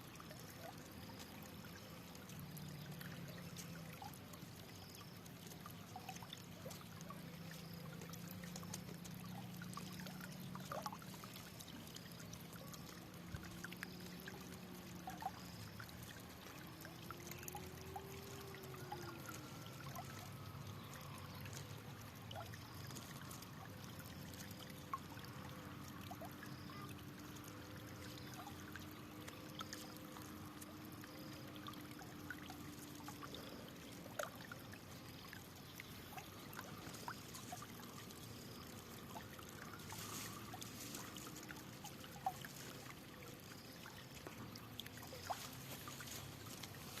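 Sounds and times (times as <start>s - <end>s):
small splashes and drips: 0.0s - 47.0s
water trickling over rocks: 0.0s - 47.0s.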